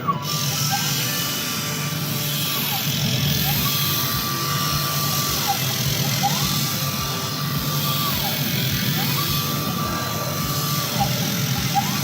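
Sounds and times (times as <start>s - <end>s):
continuous low hum: 0.0s - 12.0s
polishing machine motor whine: 0.0s - 12.0s.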